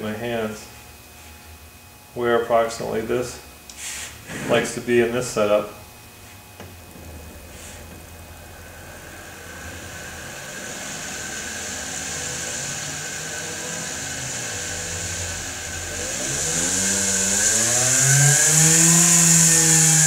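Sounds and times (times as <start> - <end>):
small motor humming and whining: 0.6 - 20.0.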